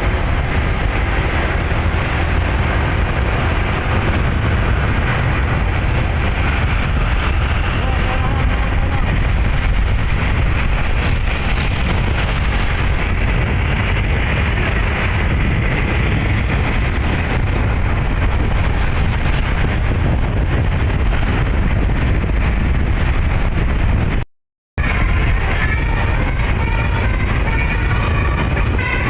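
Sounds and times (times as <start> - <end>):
road vehicle running at speed: 0.0 - 29.0
wind rushing on microphone: 0.0 - 29.0.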